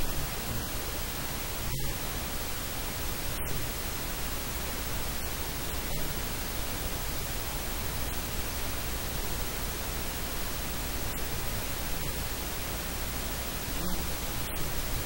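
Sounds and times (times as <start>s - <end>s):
static hiss: 0.0s - 15.0s.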